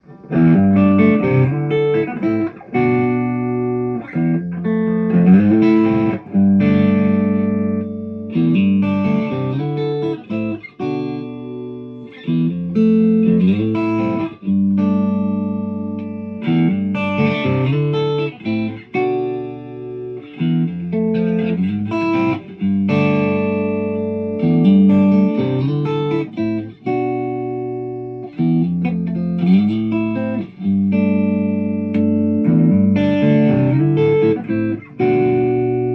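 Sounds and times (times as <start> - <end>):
electric guitar through amp: 0.0 - 35.9.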